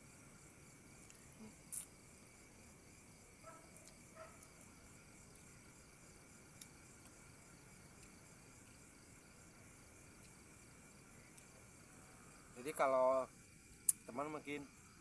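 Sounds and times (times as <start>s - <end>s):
crickets and night insects trilling: 0.0s - 15.0s.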